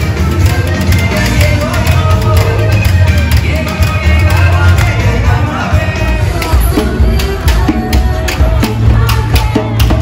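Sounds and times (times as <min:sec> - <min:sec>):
loud dance music: 0:00.0 - 0:10.0.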